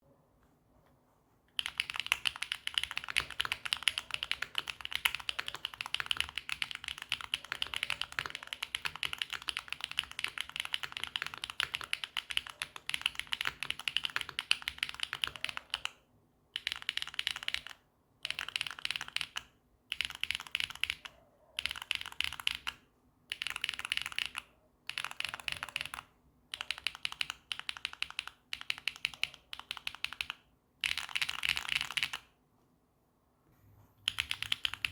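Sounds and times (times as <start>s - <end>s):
mechanical keyboard typing: 1.5s - 32.4s, 34.0s - 34.9s.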